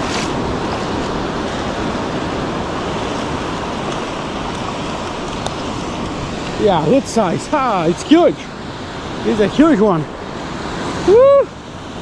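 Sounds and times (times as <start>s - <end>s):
waves and moving water: 0.0s - 12.0s.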